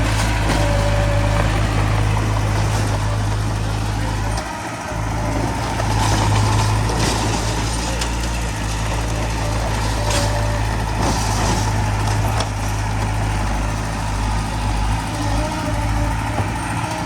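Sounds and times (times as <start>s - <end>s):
heavy diesel machinery engine: 0.0s - 17.0s.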